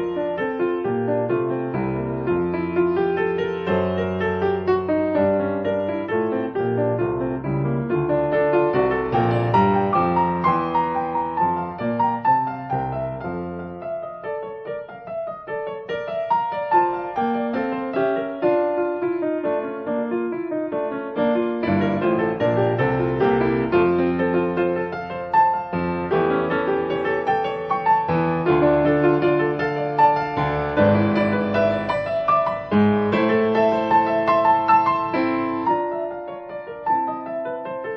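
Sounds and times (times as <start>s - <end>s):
slow piano music: 0.0s - 37.9s.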